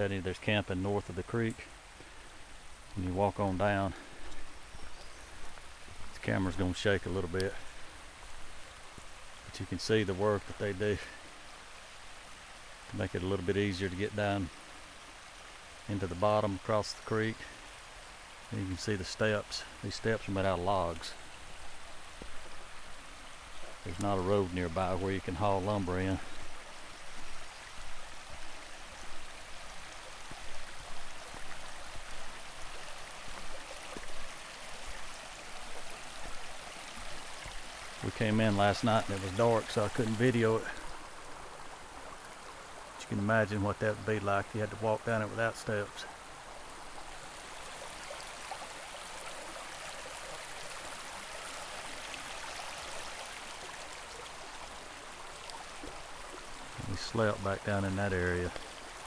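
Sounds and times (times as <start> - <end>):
creek flowing over rocks: 0.0 - 59.0.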